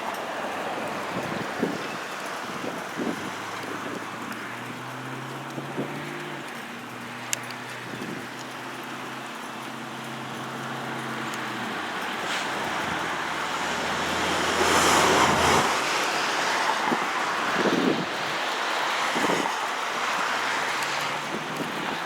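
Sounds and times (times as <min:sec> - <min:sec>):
vehicle engine hum: 0:00.0 - 0:22.0
vehicle rushing past: 0:00.0 - 0:22.0.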